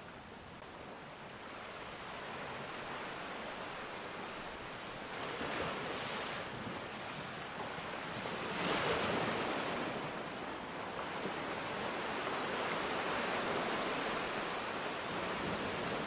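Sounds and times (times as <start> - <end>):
sea waves washing onto shore: 1.4 - 16.0.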